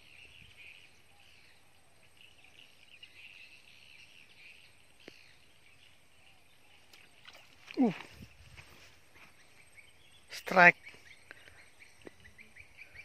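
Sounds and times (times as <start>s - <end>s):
insects and birds chirping: 0.0s - 13.0s.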